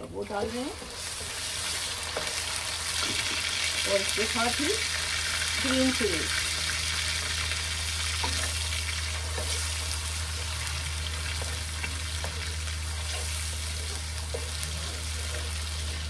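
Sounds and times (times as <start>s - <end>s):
food sizzling in hot oil: 0.1s - 16.0s
steady low hum: 0.7s - 16.0s.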